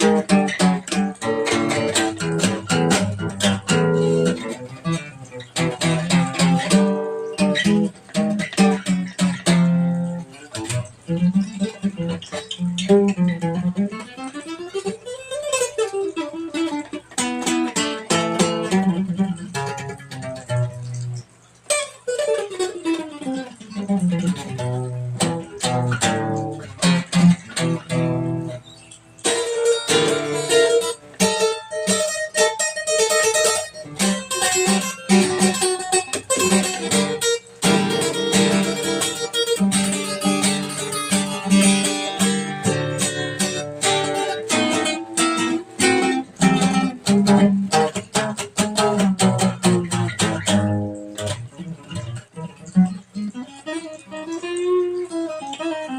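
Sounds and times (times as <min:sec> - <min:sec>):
plucked-string instrumental music: 0:00.0 - 0:55.9.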